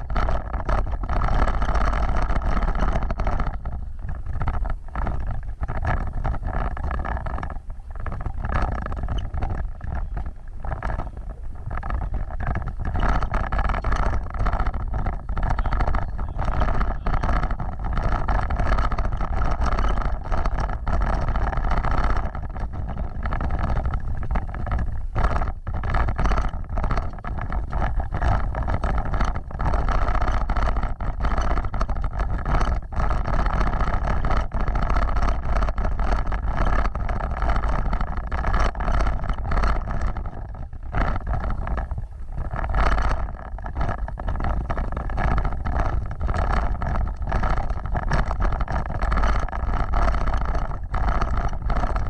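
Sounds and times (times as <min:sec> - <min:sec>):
off-road vehicle engine rumbling: 0:00.0 - 0:52.0
wind buffeting microphone: 0:00.0 - 0:52.0.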